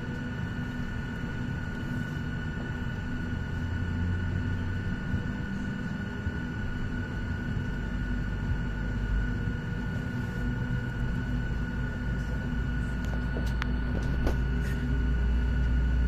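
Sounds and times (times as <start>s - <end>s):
high whine: 0.0s - 16.0s
jet cabin rumble: 0.0s - 16.0s.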